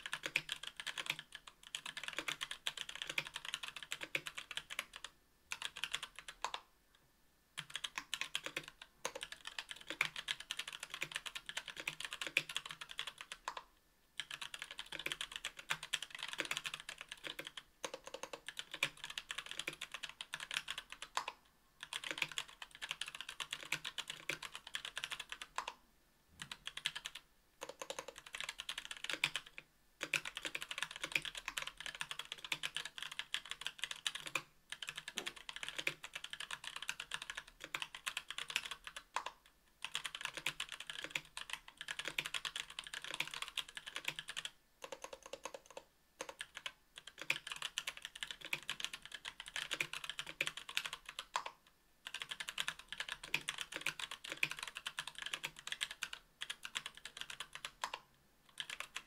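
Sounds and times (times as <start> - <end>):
mechanical keyboard typing: 0.0 - 6.7, 7.6 - 25.8, 26.4 - 59.0.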